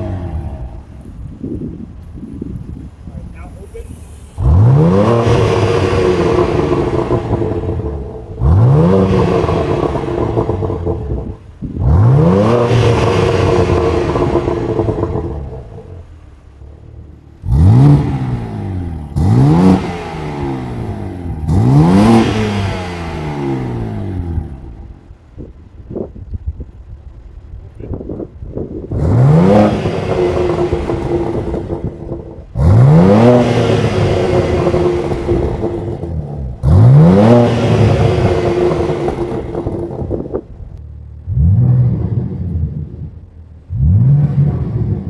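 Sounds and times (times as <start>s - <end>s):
car engine revving: 0.0s - 1.8s, 3.7s - 26.1s, 26.7s - 45.0s.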